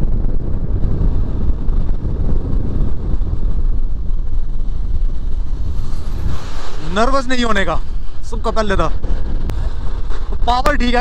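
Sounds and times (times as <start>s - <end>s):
motorcycle road noise: 0.0s - 11.0s
wind rush on microphone: 0.0s - 11.0s.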